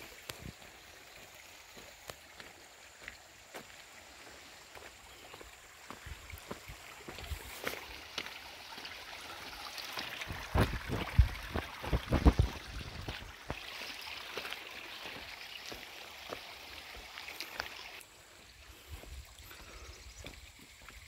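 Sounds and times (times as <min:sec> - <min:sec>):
footsteps on stony track: 0:00.0 - 0:21.0.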